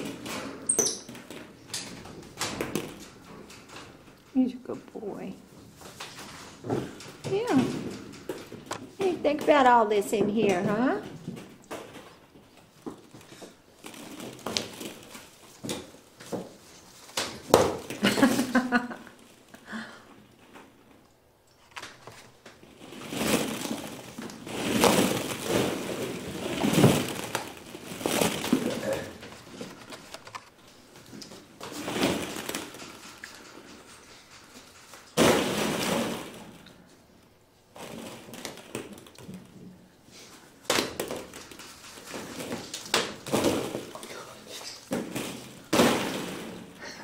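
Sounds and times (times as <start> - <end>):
plastic balls clattering: 0.0 - 4.3, 5.8 - 19.6, 21.8 - 46.9.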